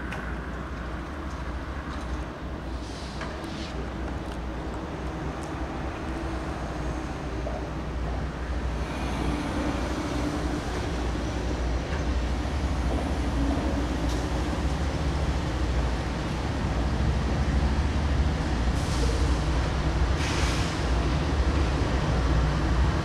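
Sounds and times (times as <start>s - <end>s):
diesel locomotive rumble: 0.0s - 23.0s.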